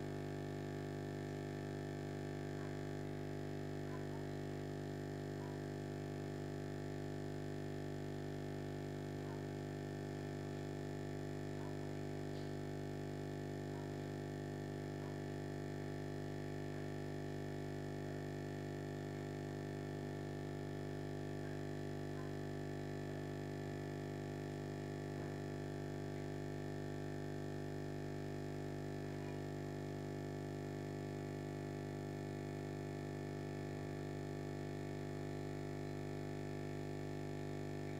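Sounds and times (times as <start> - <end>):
aquarium air pump humming: 0.0 - 37.9.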